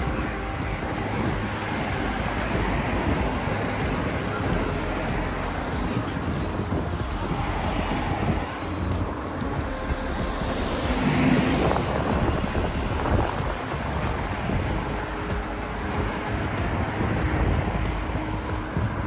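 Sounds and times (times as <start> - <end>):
road traffic rumble: 0.0 - 19.0
wind buffeting microphone: 0.0 - 19.0.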